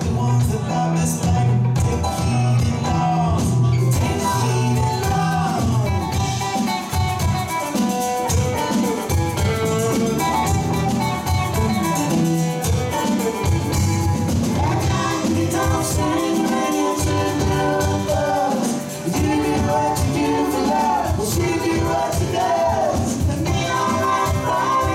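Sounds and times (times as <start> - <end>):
drums: 0.0 - 24.9
electric bass: 0.0 - 24.9
electric guitar lead with bent notes: 0.6 - 24.9.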